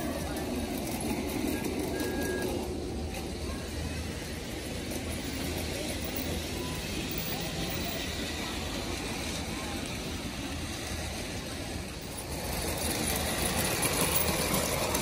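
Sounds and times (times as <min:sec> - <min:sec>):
model train rumbling on track: 0:00.0 - 0:15.0.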